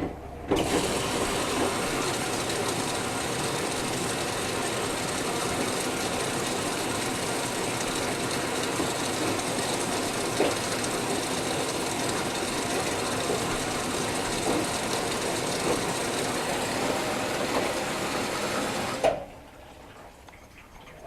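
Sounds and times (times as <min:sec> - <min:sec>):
washing machine whirring: 0:00.0 - 0:21.0.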